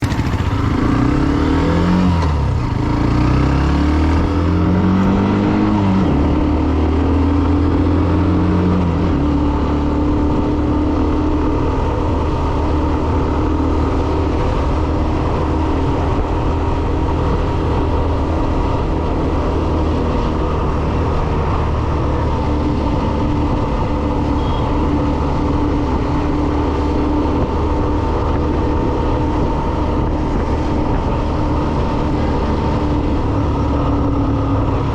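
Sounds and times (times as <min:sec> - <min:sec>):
motorcycle engine revving: 0:00.0 - 0:34.9
road and wind noise: 0:00.0 - 0:34.9.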